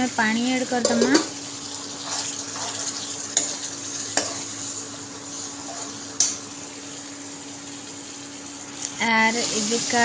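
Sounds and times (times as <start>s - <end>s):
gravy sizzling in a pan: 0.0s - 10.0s.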